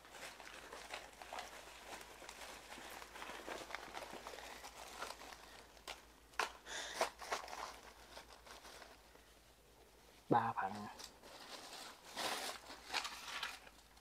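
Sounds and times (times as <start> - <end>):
rustling and crunching: 0.0 - 14.0.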